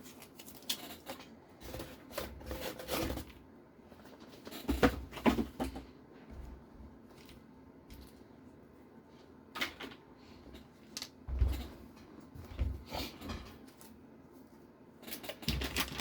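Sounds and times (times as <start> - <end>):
small parts knocking and rustling: 0.0 - 8.3, 9.5 - 14.0, 15.0 - 16.0.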